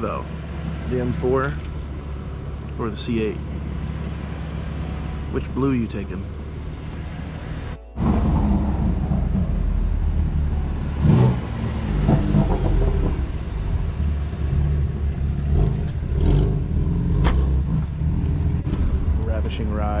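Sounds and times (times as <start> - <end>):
car engine droning: 0.0 - 20.0.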